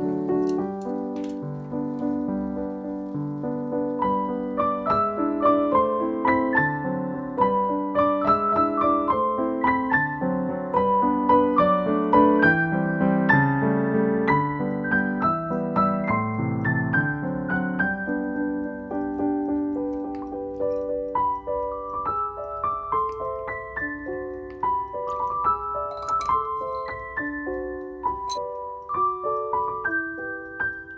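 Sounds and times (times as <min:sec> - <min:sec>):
solo piano: 0:00.0 - 0:30.9.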